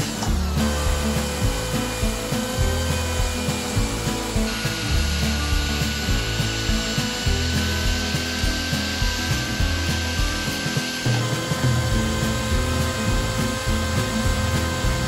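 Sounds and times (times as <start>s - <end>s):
electric chainsaw cutting wood: 0.0s - 15.0s.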